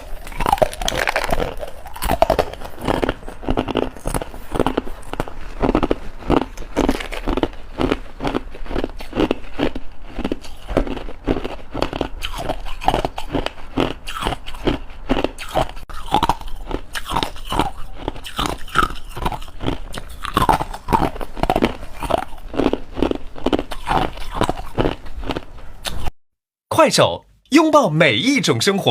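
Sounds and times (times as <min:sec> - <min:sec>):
ice being chewed: 0:00.0 - 0:26.1.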